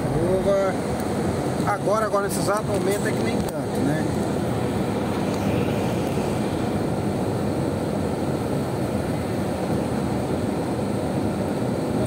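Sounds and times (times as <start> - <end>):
car engine and tyres on wet road: 0.0 - 12.0.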